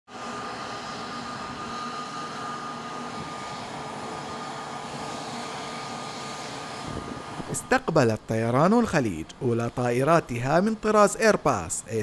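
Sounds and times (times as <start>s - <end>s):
jet engines running: 0.1s - 12.0s.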